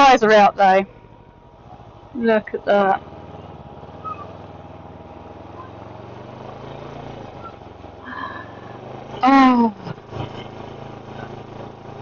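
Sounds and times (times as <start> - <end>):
motorcycle engine humming: 0.0 - 12.0.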